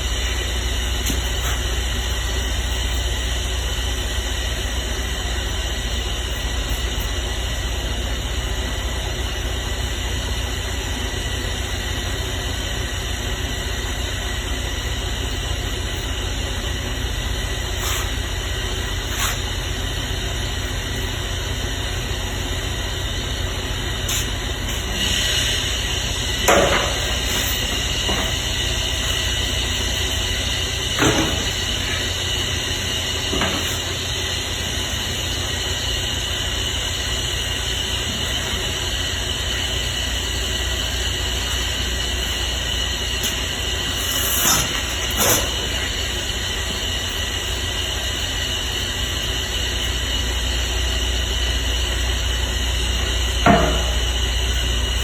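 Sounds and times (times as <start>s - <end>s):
machine drone: 0.0s - 55.0s
steady low hum: 0.0s - 55.0s.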